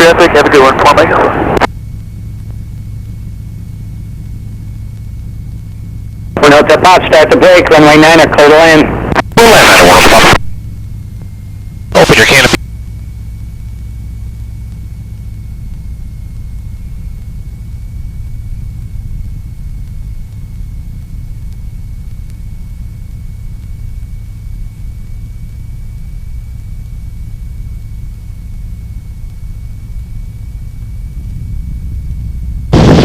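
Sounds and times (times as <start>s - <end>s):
radial engine droning in flight: 0.0s - 33.0s.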